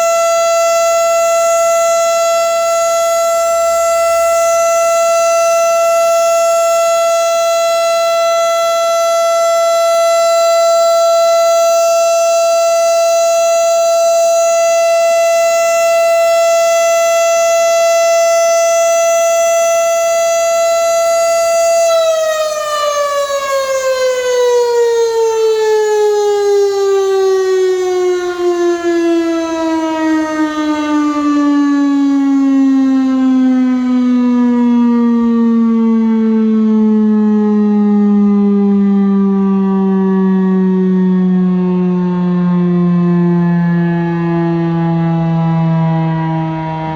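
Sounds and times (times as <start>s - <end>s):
tornado warning siren: 0.0s - 46.9s.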